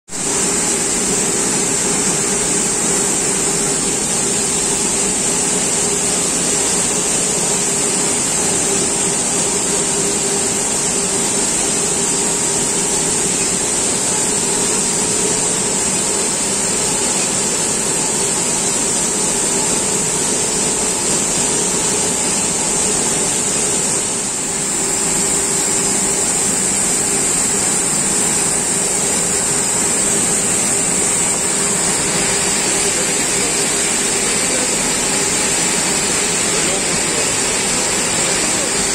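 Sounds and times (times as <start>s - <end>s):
industrial machine drone with hiss: 0.1s - 38.9s.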